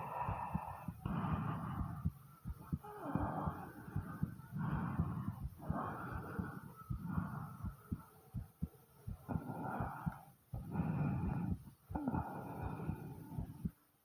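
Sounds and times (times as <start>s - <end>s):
deep breaths: 0.0s - 13.8s
heartbeat thumps: 0.0s - 13.8s.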